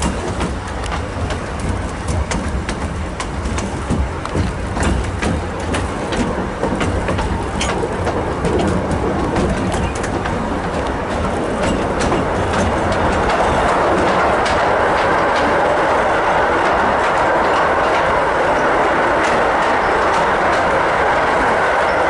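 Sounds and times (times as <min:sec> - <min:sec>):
clicks over rail joints: 0:00.0 - 0:22.0
train wheels rumbling on rail: 0:00.0 - 0:22.0.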